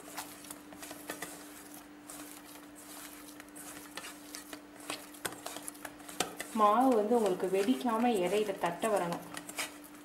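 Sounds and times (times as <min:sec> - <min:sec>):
dough squishing: 0:00.0 - 0:10.0.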